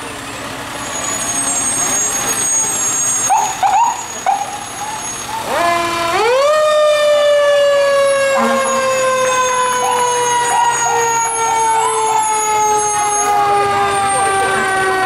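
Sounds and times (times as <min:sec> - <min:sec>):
fire truck siren winding: 0:01.4 - 0:15.0
second wailing siren tone: 0:01.7 - 0:15.0.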